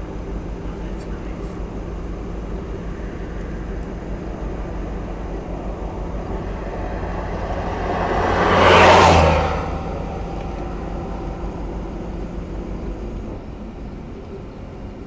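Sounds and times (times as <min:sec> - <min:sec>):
steady low hum: 0:00.0 - 0:15.0
vehicle passing by: 0:01.4 - 0:13.6.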